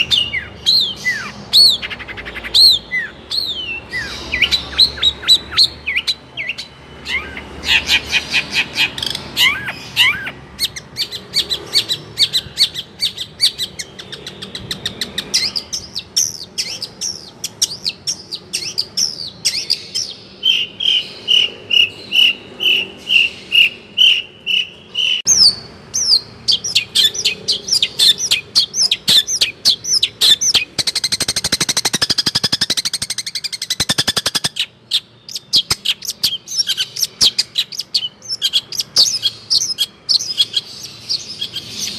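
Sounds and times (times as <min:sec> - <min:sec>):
shrike singing chirps and trills: 0:00.0 - 0:41.9.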